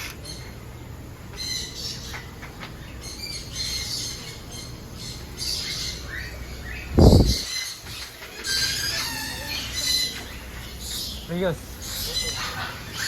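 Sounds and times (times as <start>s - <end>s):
birds squawking and calling: 0.0s - 13.0s.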